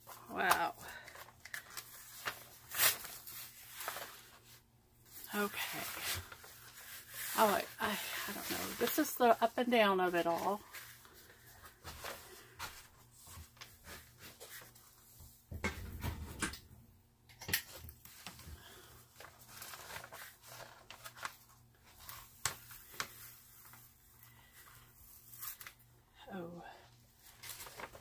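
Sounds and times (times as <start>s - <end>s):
plastic film crackling and rustling: 0.0s - 15.1s, 17.5s - 25.9s, 27.2s - 28.0s.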